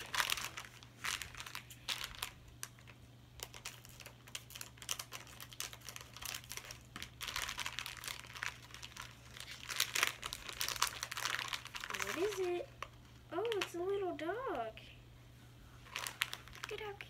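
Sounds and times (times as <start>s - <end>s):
plastic packet crinkling: 0.0s - 14.1s, 15.8s - 17.0s.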